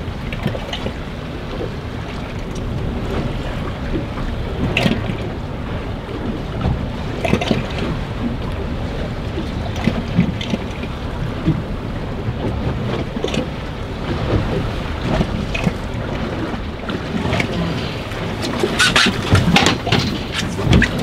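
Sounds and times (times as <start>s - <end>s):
waves washing against boat: 0.0s - 21.0s
wind buffeting microphone: 0.0s - 21.0s.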